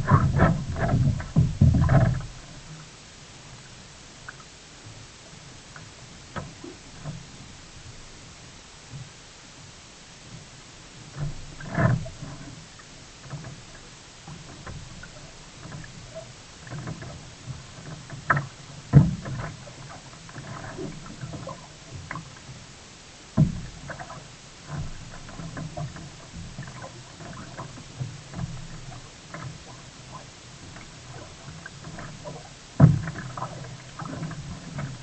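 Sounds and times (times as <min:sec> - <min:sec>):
paddle splashes: 0:00.0 - 0:35.0
water sloshing around hull: 0:00.0 - 0:35.0.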